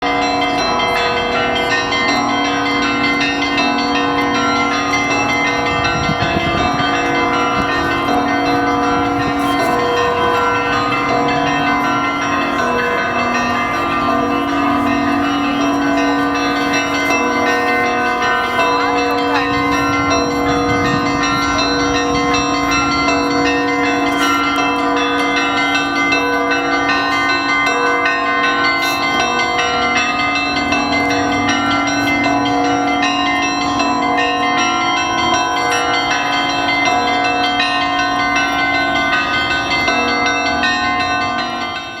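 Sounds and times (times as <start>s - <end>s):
church bells ringing: 0.0s - 42.0s.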